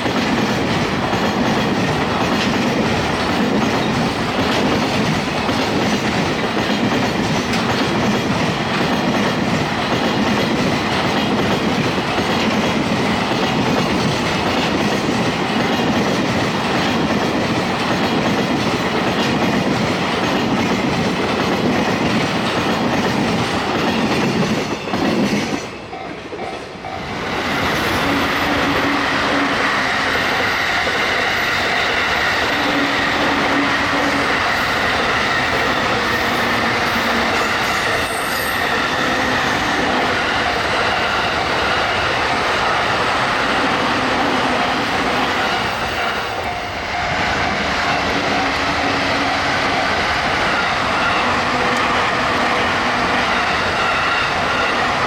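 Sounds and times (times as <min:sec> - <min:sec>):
train steady whine: 0:00.0 - 0:55.0
trains passing with rail noise: 0:00.0 - 0:55.0.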